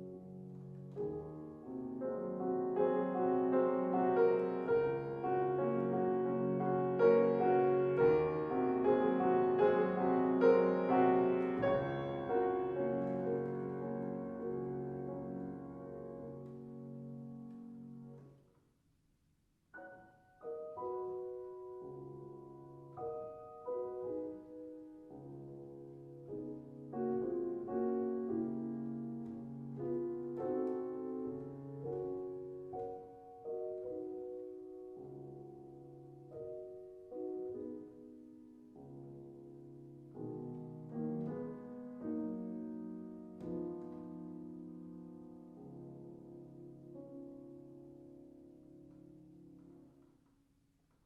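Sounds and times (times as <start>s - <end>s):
slow piano notes and chords: 0.0s - 18.6s, 19.7s - 51.0s.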